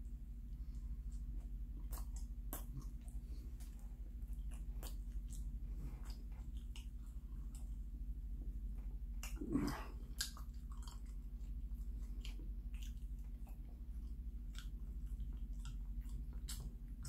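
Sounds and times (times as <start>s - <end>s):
man chewing bread: 0.0s - 17.0s
steady low hum: 0.0s - 17.0s.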